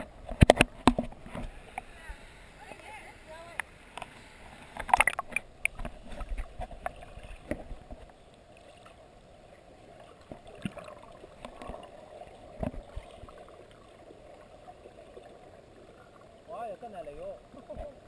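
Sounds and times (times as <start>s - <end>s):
muffled underwater wash: 0.0s - 18.0s
underwater bubbling: 0.0s - 18.0s.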